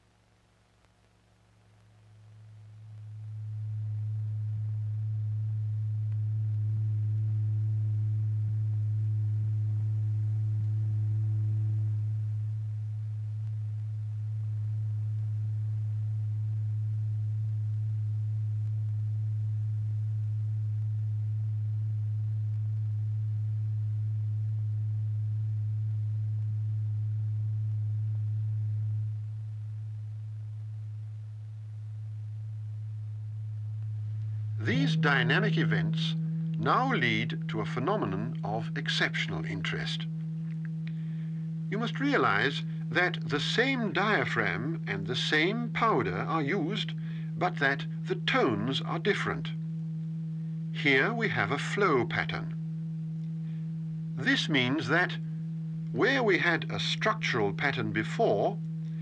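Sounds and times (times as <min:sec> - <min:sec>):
low steady pure tone: 0:00.0 - 0:59.0.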